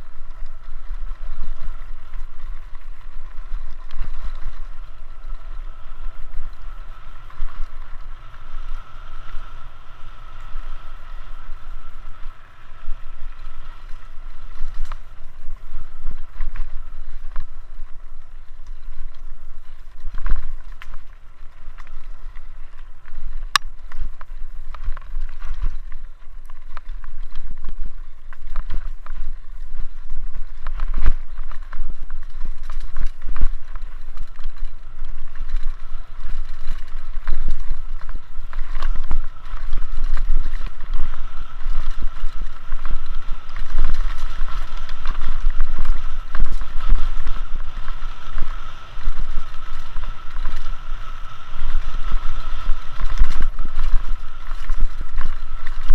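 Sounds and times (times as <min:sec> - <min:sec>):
bike rattling and knocking: 0:00.0 - 0:55.9
steady high whine: 0:00.0 - 0:55.9
wind rushing over microphone: 0:00.0 - 0:55.9.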